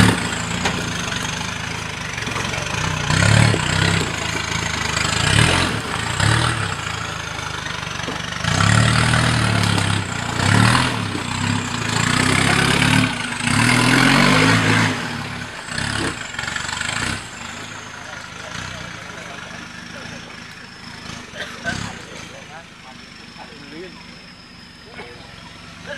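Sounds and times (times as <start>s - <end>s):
vehicle engine revving: 0.0s - 25.9s.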